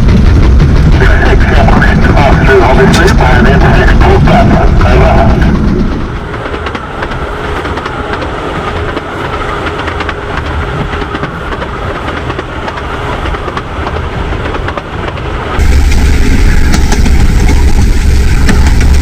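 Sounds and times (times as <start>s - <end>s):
miniature train rumbling: 0.0s - 19.0s
wheels clattering over rails: 0.0s - 19.0s.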